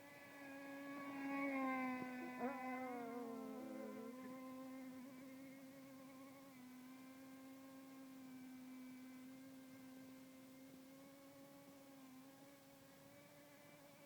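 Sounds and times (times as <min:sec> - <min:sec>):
faint boat engine drone: 0:00.0 - 0:14.0.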